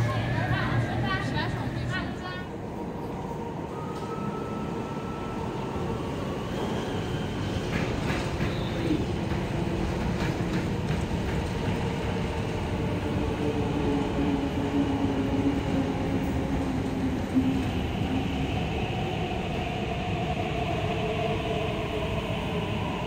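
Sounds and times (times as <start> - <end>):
train rumbling into station: 0.0 - 23.0.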